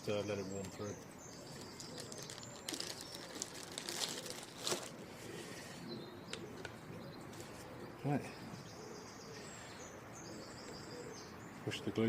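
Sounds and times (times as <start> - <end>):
faint bird calls: 0.0 - 12.0.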